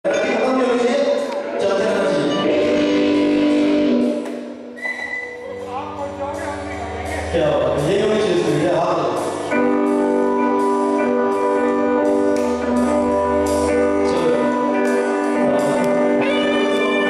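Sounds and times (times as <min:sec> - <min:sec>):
live rock band playing: 0:01.1 - 0:17.0
electric guitar chords: 0:01.4 - 0:17.0.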